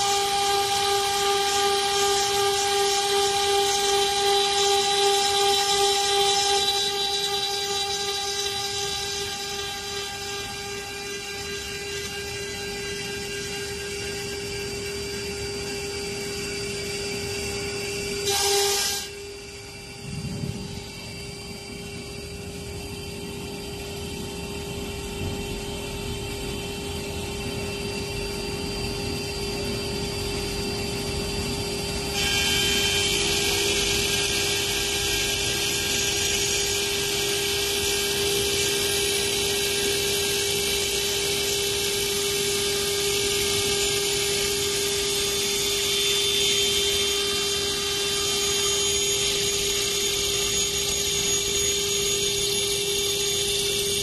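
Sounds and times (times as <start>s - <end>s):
high-pitched grinding hiss: 0.0s - 25.8s, 27.4s - 54.0s
milling machine spindle whine: 0.0s - 54.0s.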